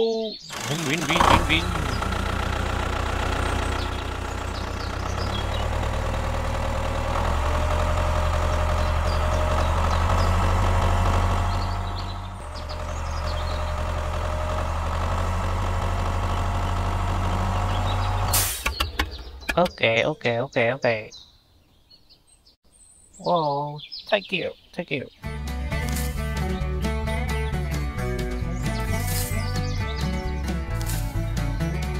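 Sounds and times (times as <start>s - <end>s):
tractor engine idling: 0.4s - 20.0s, 25.3s - 31.9s.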